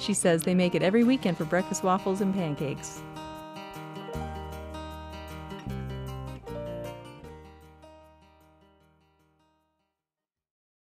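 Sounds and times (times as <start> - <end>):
background music with quick repeated notes: 0.0 - 9.2.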